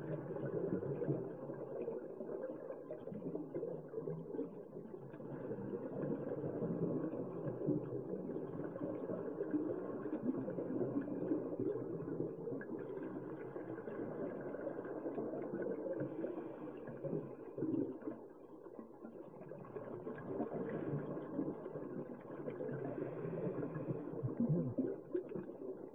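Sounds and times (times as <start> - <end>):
muffled underwater rumble: 0.0 - 25.9.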